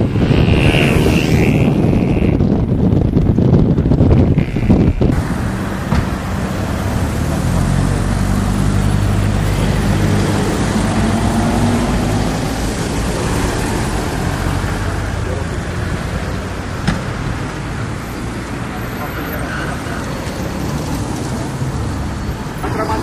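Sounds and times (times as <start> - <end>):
roadside traffic noise: 0.0 - 23.0
wind and road noise from car: 0.0 - 23.0.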